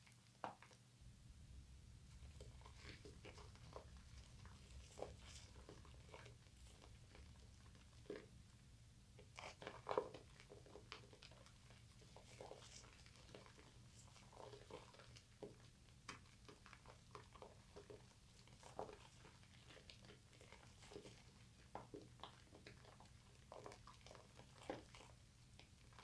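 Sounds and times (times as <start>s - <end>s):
wet squishing of soap lather: 2.0s - 26.0s.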